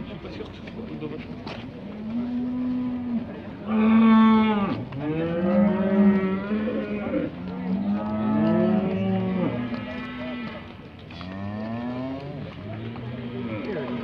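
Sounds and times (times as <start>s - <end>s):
cows mooing: 2.0s - 14.0s.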